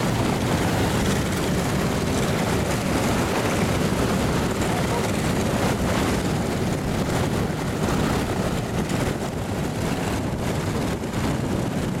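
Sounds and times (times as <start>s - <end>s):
propeller plane engines running: 0.0s - 12.0s.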